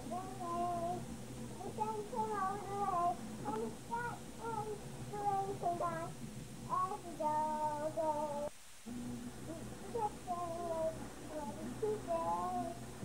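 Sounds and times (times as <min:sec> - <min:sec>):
child singing: 0:00.0 - 0:01.0, 0:01.6 - 0:06.1, 0:06.7 - 0:08.5, 0:09.5 - 0:12.9.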